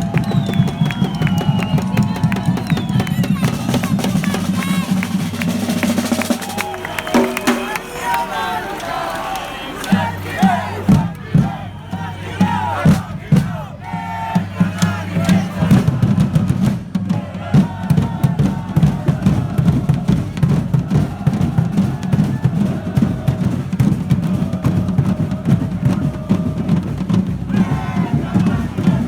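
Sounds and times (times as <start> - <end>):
crowd shouting: 0.0 - 29.0
drum band pounding fast beat: 0.0 - 29.0.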